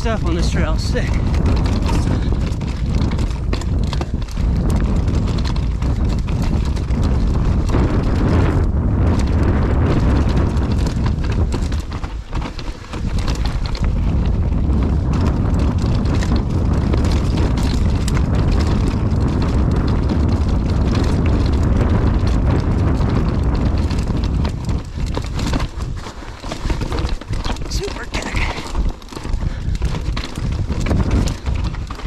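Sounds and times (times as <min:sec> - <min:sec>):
bike rattling over rocks: 0:00.0 - 0:32.0
bike tyres rumbling: 0:00.0 - 0:32.0
wind rushing over microphone: 0:00.0 - 0:32.0.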